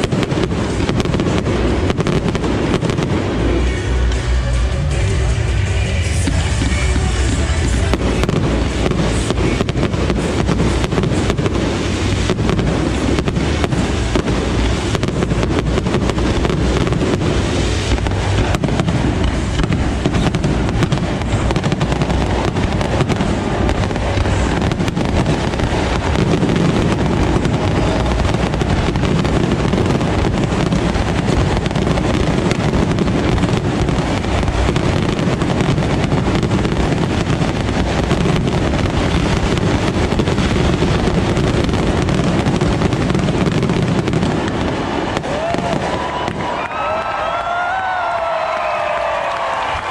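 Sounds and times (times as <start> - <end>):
heavy low rumble: 0.0 - 47.3
fireworks bangs and crackles: 0.0 - 49.9.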